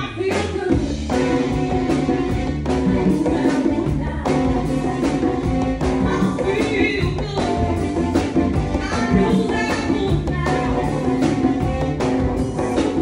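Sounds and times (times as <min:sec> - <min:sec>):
conga drum struck by hand: 0:00.0 - 0:13.0
drum kit: 0:00.0 - 0:13.0
person singing: 0:00.0 - 0:13.0.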